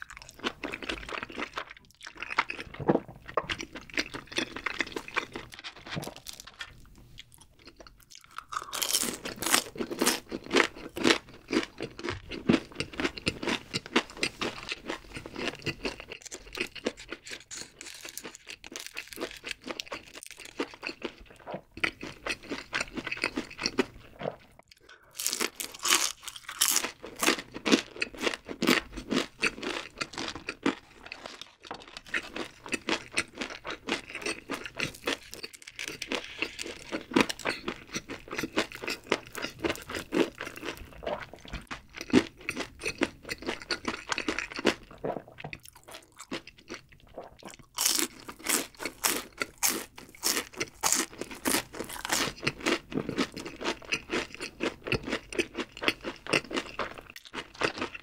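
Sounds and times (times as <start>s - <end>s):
crunchy fried food chewing: 0.0s - 58.0s.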